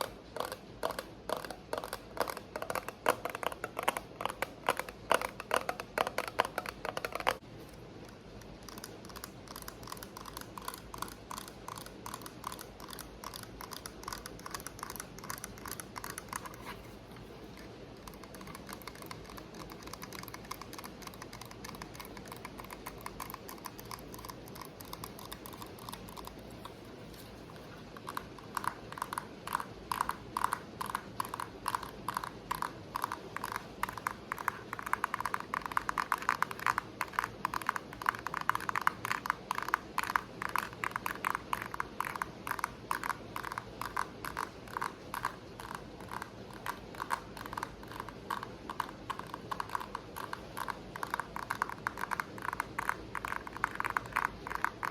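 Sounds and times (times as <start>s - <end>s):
fast tapping on hard object: 0.0s - 7.4s, 8.6s - 16.8s, 17.6s - 26.8s, 27.6s - 54.9s.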